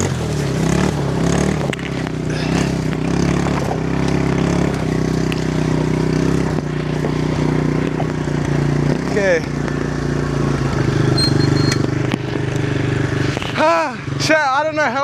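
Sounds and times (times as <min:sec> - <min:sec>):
quad bike engine revving: 0:00.0 - 0:14.8.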